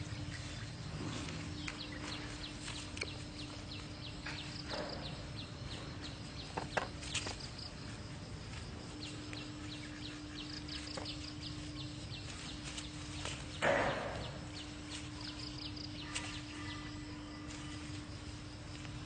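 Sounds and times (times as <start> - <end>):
faint steady hum: 0.0 - 19.0
small birds chirping: 0.0 - 19.0.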